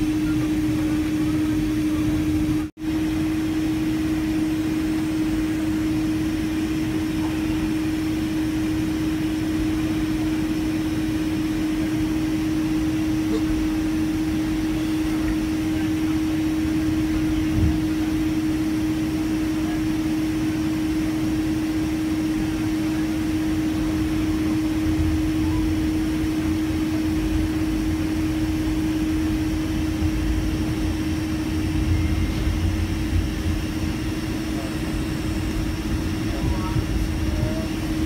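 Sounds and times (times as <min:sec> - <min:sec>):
airliner cabin hum: 0:00.0 - 0:38.0
rumble of plane rolling: 0:00.0 - 0:38.0.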